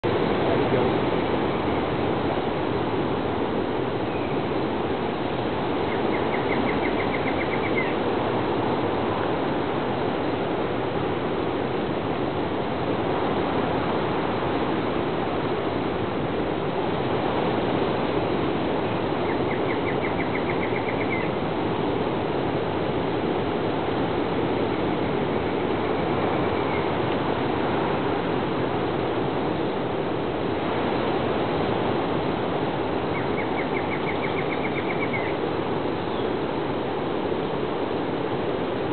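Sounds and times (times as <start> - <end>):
rushing rainforest ambience: 0.0 - 38.9.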